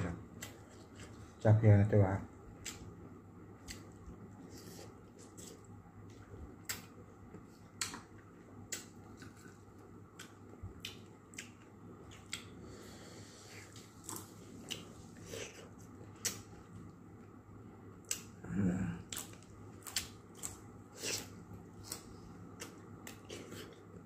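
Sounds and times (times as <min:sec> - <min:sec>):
quiet chewing: 0:00.3 - 0:01.4, 0:02.5 - 0:17.4, 0:18.0 - 0:24.0.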